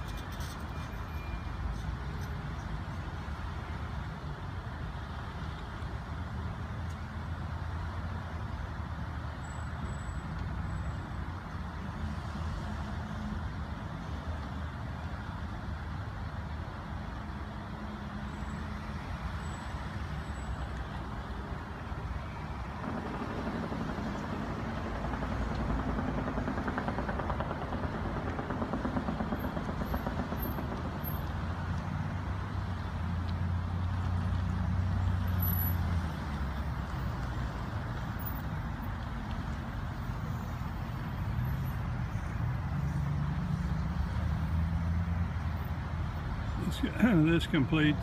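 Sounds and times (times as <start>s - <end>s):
slow traffic hum: 0.0s - 48.0s.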